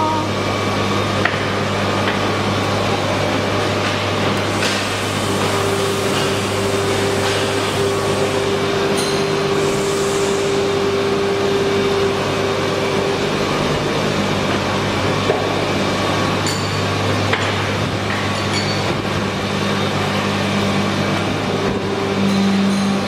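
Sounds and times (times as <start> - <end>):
injection moulding machine drone: 0.0 - 23.0
machine whine: 0.0 - 23.0.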